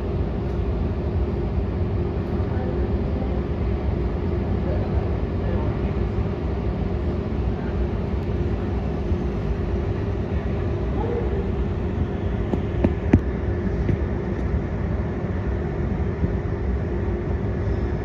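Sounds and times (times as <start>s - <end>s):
engine rumble: 0.0s - 18.0s.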